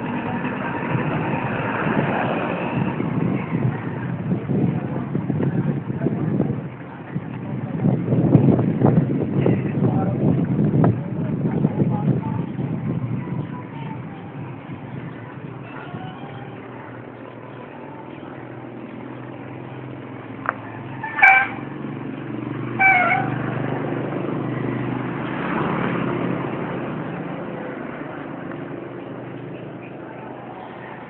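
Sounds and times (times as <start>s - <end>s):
vehicle passing: 0.0s - 31.0s
wind and road noise: 0.0s - 31.0s.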